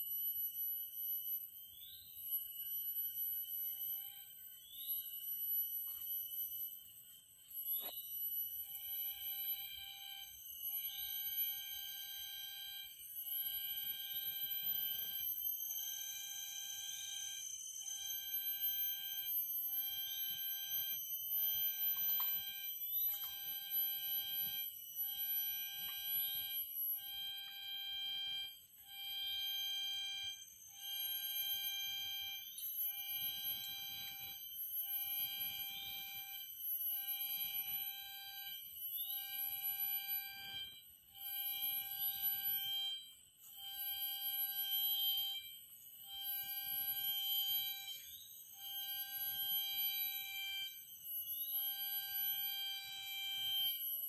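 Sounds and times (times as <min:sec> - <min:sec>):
high-pitched insect drone: 0:00.0 - 0:27.6, 0:28.2 - 0:40.8, 0:44.2 - 0:54.0.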